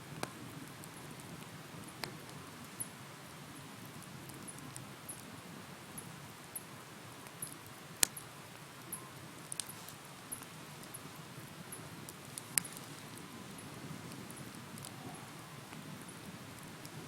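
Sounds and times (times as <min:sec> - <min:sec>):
bonfire flame rumble: 0:00.0 - 0:17.0
fire crackling and ticking: 0:00.0 - 0:17.0.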